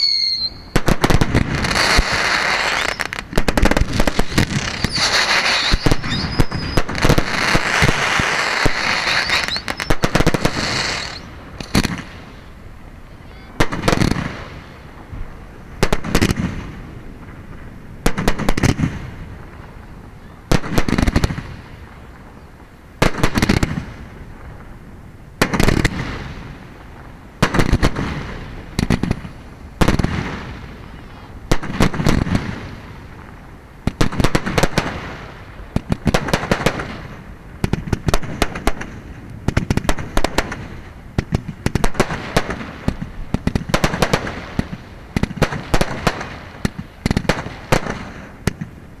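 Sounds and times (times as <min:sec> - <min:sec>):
fireworks bursting: 0:00.0 - 0:49.0.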